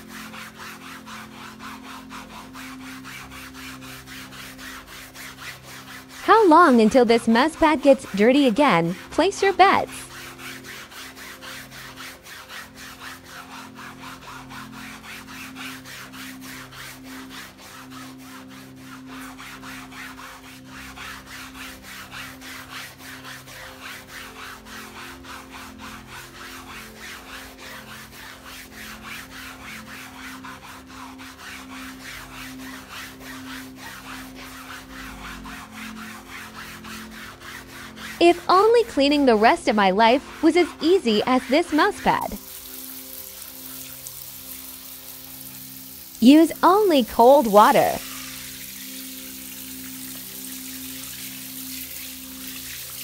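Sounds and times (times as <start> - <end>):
sponge scrubbing wet fabric: 0.0 - 53.0.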